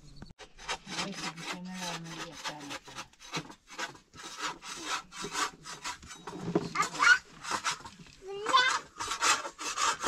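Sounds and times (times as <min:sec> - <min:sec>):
rapid scraping strokes: 0:00.4 - 0:10.0.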